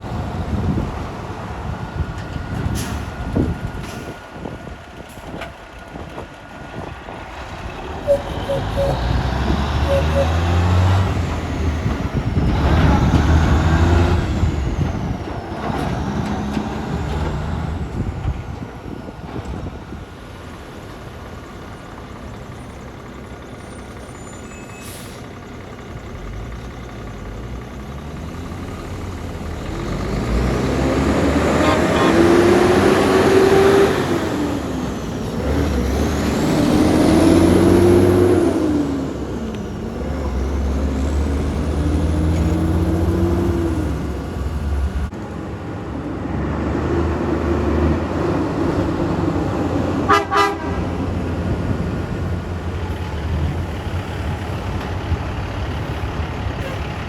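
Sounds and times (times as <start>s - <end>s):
heavy truck engine running: 0.0s - 57.0s.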